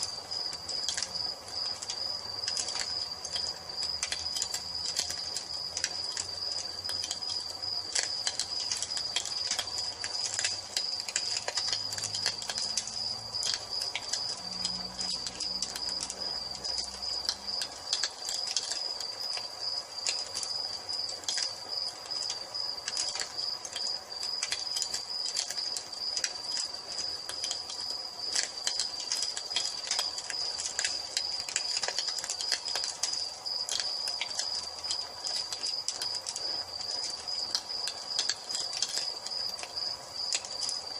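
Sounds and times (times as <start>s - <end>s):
cricket trill: 0.0s - 40.9s
wood fire crackling and popping: 0.0s - 40.9s.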